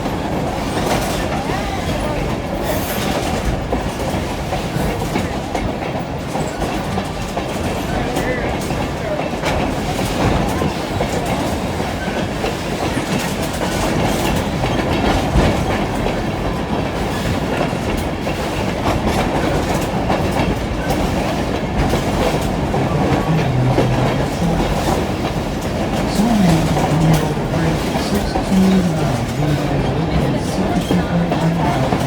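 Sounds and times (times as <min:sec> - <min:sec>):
train wheels clickety-clack: 0:00.0 - 0:32.0.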